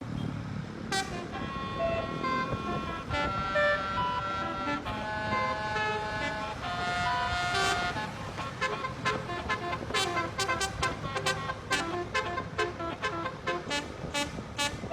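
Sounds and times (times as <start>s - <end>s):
multi-tone horn playing melody: 0.9s - 14.9s.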